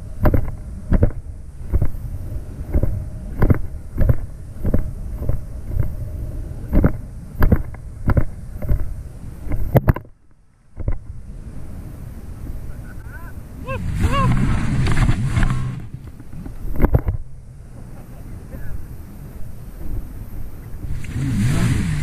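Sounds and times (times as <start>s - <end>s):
hull slapping waves: 0.0s - 10.1s, 10.7s - 22.0s
watercraft engine running: 0.0s - 22.0s.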